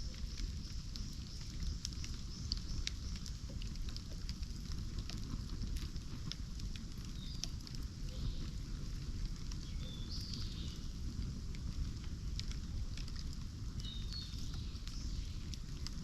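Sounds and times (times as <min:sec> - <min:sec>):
bonfire crackling: 0:00.0 - 0:16.0.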